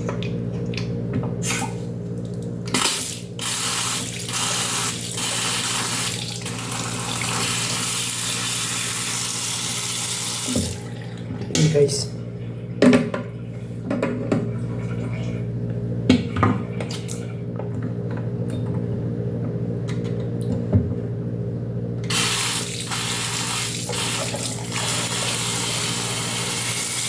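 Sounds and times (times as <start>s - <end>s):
washing machine motor hum: 0.0s - 27.0s.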